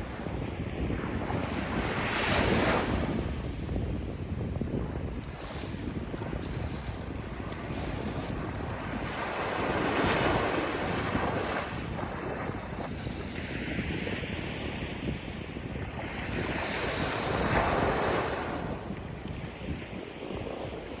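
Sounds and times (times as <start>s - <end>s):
ocean waves breaking on shore: 0.0s - 21.0s
wind buffeting microphone: 0.0s - 21.0s.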